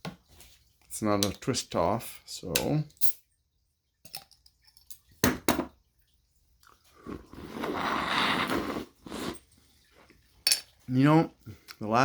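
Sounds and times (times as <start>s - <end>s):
cider fizzing and gushing: 0.0s - 12.0s.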